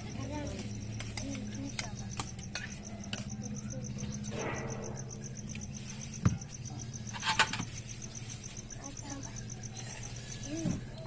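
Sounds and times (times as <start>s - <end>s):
cricket chirping: 0.0s - 11.0s
low steady hum: 0.0s - 11.0s.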